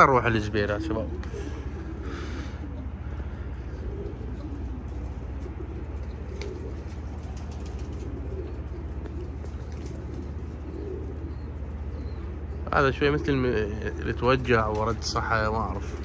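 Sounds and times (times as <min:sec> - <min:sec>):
pigeons cooing: 0:00.0 - 0:16.0
steady low rumble: 0:00.0 - 0:16.0.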